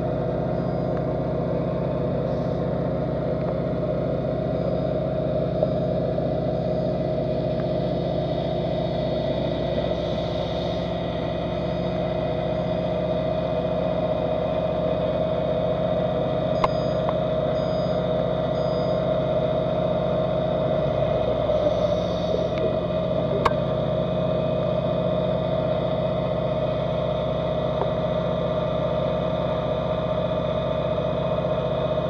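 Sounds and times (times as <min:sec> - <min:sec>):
underwater machinery drone: 0:00.0 - 0:32.0.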